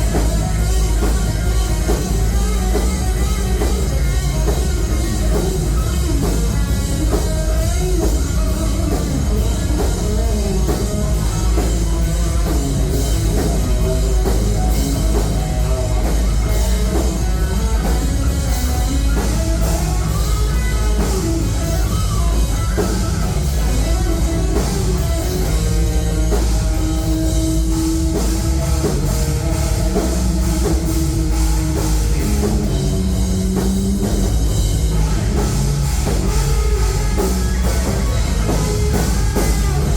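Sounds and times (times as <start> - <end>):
rock band playing loud: 0.0 - 39.9.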